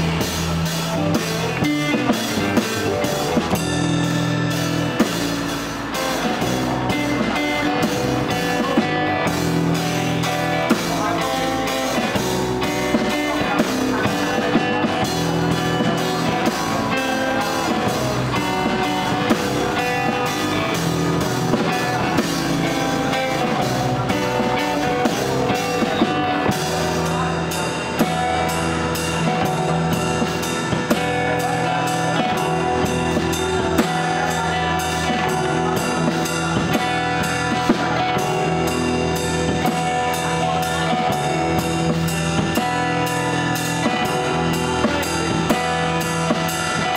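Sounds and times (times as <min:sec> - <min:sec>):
acoustic guitars playing: 0:00.0 - 0:46.9
drum kit played with sticks: 0:00.0 - 0:46.9.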